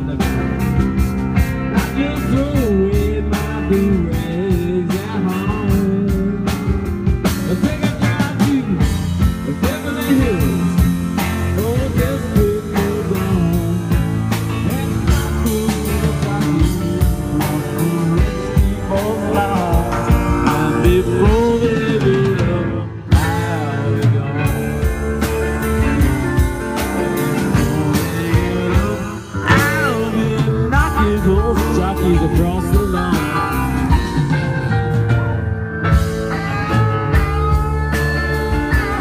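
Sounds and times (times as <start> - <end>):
drum kit beat: 0.0 - 39.0
electric guitars: 0.0 - 39.0
live rock band playing: 0.0 - 39.0.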